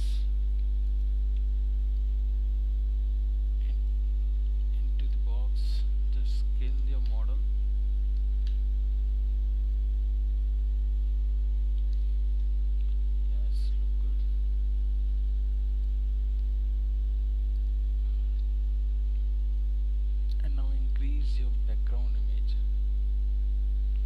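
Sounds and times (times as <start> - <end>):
low mains hum: 0.0 - 24.0.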